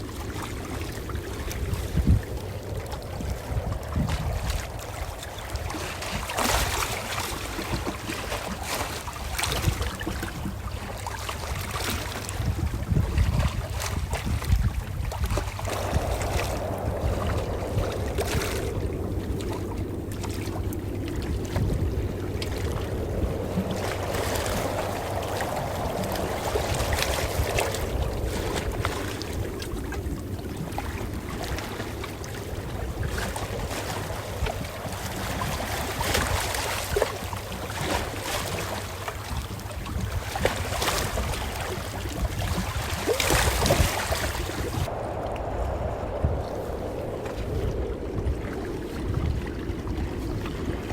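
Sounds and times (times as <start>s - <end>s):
low surf rumble: 0.0s - 50.9s
ocean waves washing ashore: 0.0s - 50.9s.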